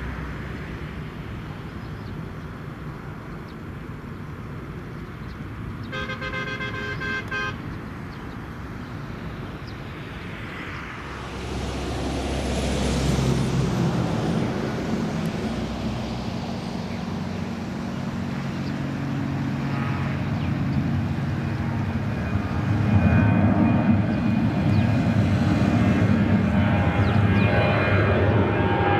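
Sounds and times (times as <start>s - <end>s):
jet airliner engines: 0.0s - 28.9s.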